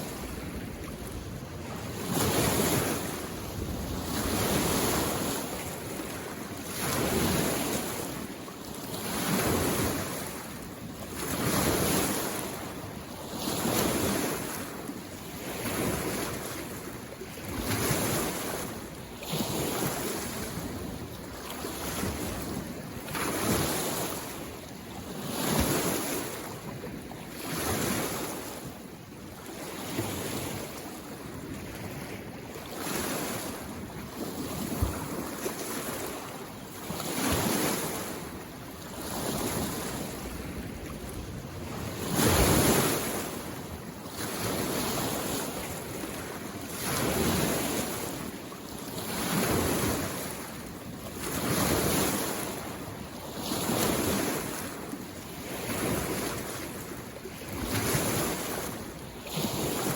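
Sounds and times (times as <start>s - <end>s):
waves lapping against shore: 0.0s - 59.9s.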